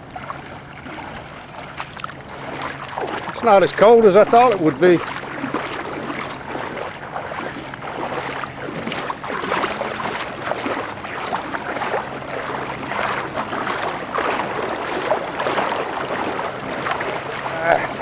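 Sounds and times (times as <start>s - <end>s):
wading through water: 0.0s - 18.0s.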